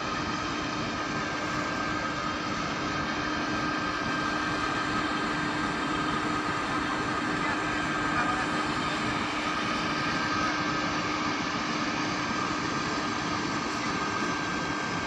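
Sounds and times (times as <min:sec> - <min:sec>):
diesel locomotive engine drone: 0:00.0 - 0:15.0
steady whining tones: 0:00.0 - 0:15.0.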